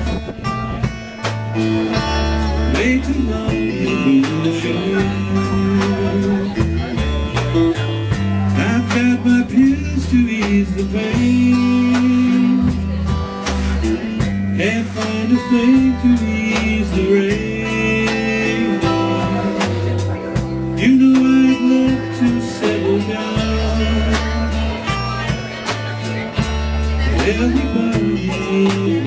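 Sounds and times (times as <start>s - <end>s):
electric guitar lead: 0.0s - 29.0s
steady bass line: 0.0s - 29.0s.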